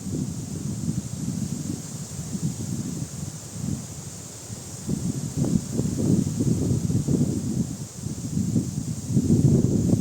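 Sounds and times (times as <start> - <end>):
steady high hiss: 0.0 - 10.0
wind buffeting microphone: 0.0 - 10.0.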